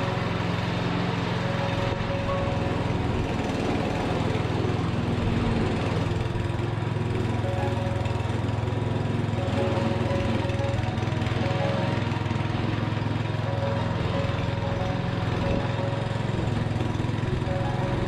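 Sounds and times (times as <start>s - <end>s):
motor running steadily: 0.0s - 18.0s.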